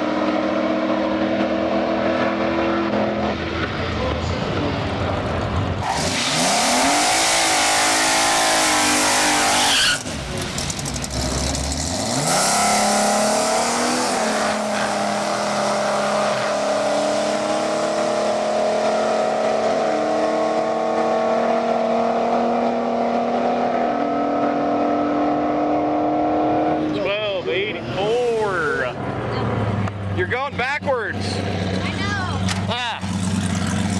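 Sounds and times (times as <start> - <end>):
drag car engine revving: 0.0 - 33.9
tire noise: 0.0 - 33.9.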